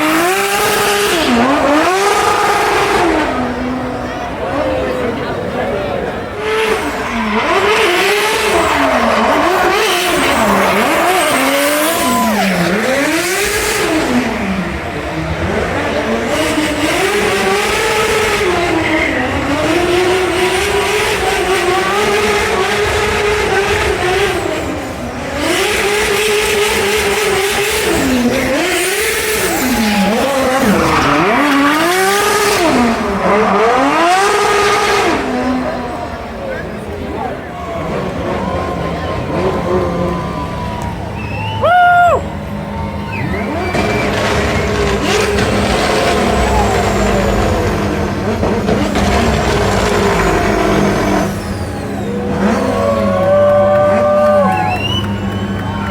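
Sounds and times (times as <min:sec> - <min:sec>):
car engine revving: 0:00.0 - 0:55.9
tires squealing: 0:00.0 - 0:55.9.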